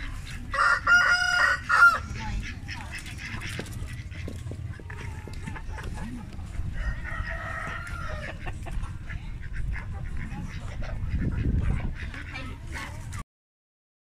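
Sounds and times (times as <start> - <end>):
poultry squawking: 0.0 - 13.0.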